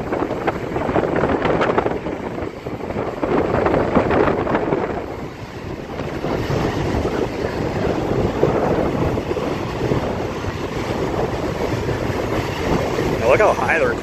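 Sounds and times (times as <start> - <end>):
lake waves breaking on shore: 0.0 - 14.0
wind buffeting microphone: 0.0 - 14.0.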